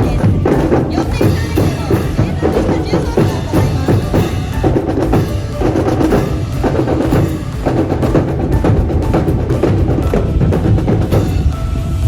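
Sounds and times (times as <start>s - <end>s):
bass drum: 0.0s - 12.0s
brass band playing marching music: 0.0s - 12.0s
sharp clacking strikes: 0.0s - 12.0s
snare drum: 0.0s - 12.0s.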